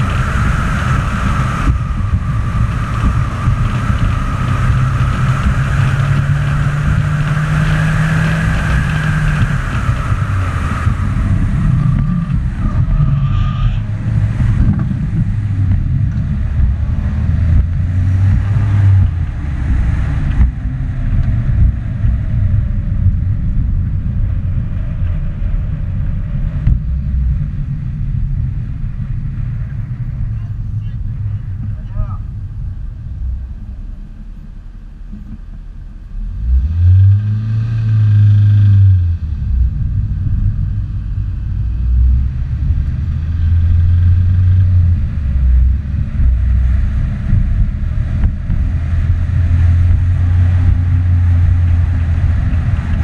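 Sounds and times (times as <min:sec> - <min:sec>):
car engine running hard: 0:00.0 - 0:53.0
wind and road noise: 0:00.0 - 0:53.0.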